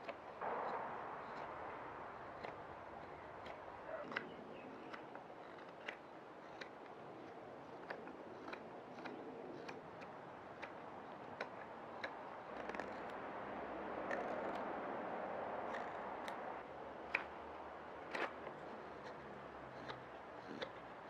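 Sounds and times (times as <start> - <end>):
blade cutting wood clicks: 0.0 - 13.2, 15.6 - 16.4, 17.0 - 21.0.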